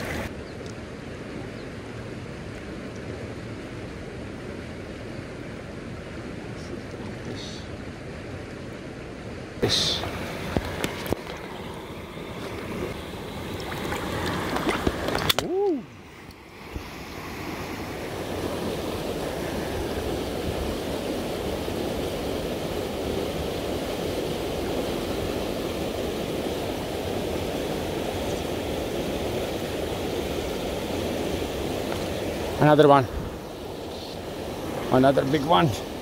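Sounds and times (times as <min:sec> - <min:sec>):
river water rushing over weir: 0:00.0 - 0:36.0.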